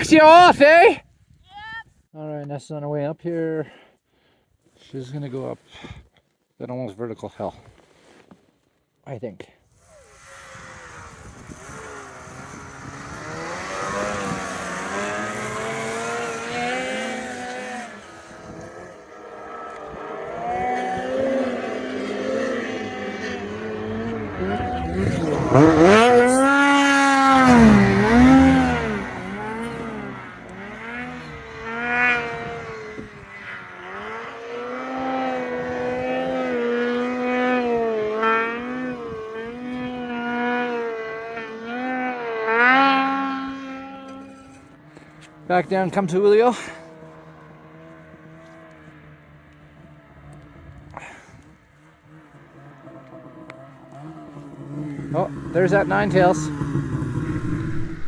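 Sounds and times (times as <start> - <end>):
snowmobile engine revving: 0.0 - 1.0, 9.7 - 58.0.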